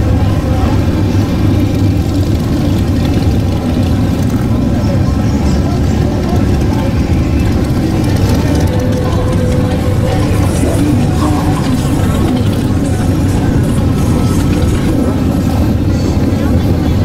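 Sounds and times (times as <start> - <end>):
motorcycles riding past: 0.0 - 17.0.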